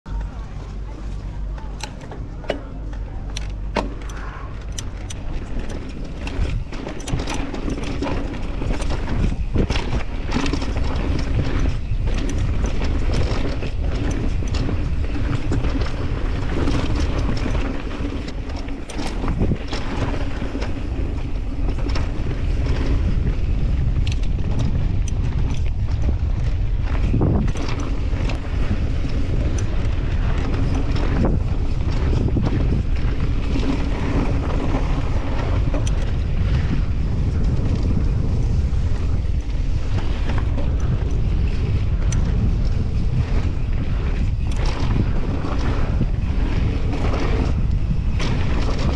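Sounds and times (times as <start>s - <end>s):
bike rattling over rough ground: 0.1s - 48.9s
wind buffeting microphone: 0.1s - 48.9s.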